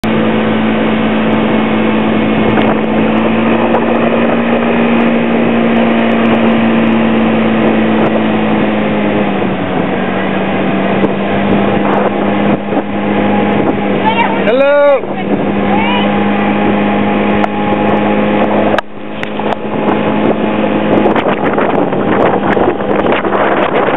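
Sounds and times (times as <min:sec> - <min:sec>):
wind noise on microphone: 0:00.0 - 0:23.9.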